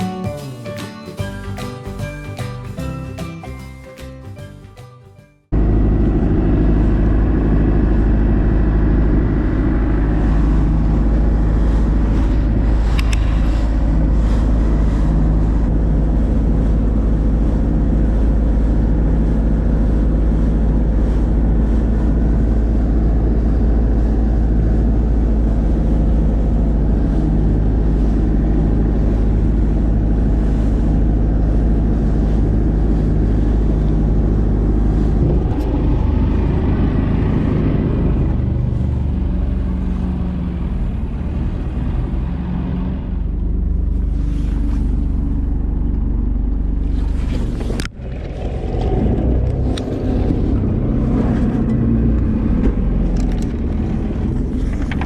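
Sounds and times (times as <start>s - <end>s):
boat engine droning: 5.5s - 55.0s.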